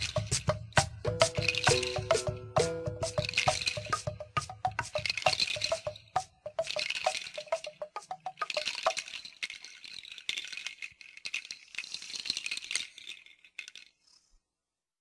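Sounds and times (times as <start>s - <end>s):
hand rattle shaking: 0.0s - 14.4s.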